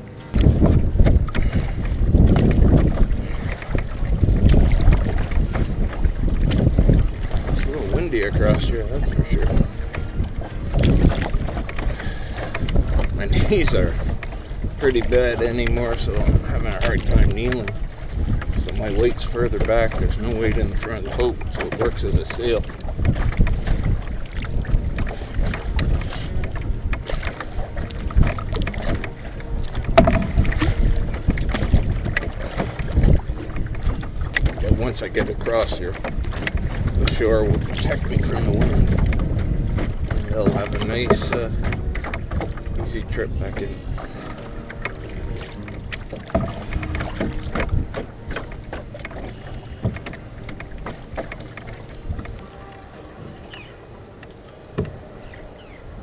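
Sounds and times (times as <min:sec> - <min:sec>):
water splashing against canoe: 0:00.0 - 0:56.0
wind buffeting microphone: 0:00.0 - 0:56.0.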